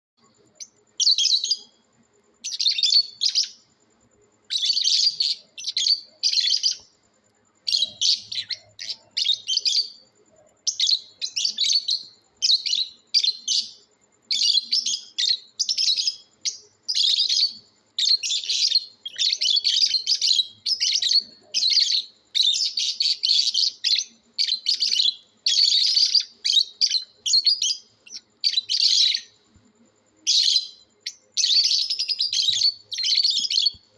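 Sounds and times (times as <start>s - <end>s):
lovebirds chirping: 0.6s - 1.7s, 2.4s - 3.7s, 4.5s - 6.9s, 7.6s - 29.6s, 30.3s - 33.8s.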